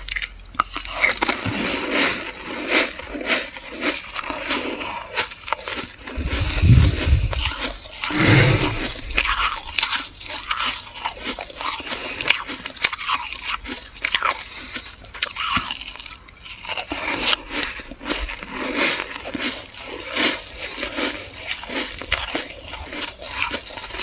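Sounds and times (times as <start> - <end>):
freezer frost crunching: 0.1 - 24.0.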